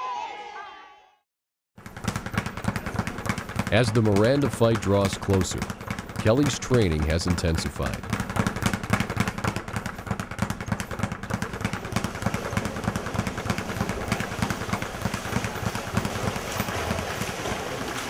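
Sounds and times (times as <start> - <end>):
speed bag rattling: 1.8 - 18.0.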